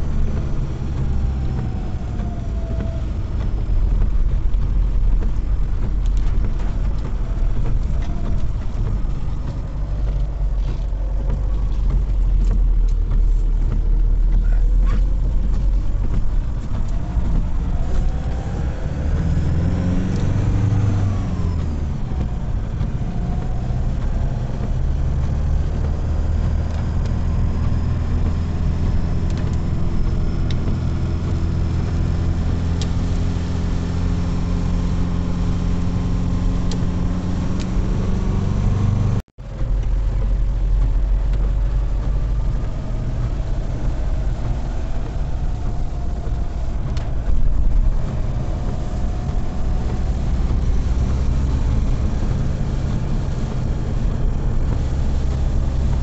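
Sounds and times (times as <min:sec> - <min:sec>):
car engine from inside cabin: 0:00.0 - 0:56.0
tyres on wet road: 0:00.0 - 0:56.0.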